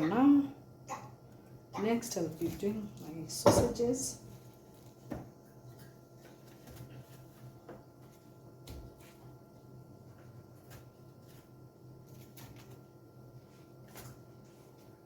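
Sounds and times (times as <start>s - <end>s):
freezer humming: 0.0s - 15.0s.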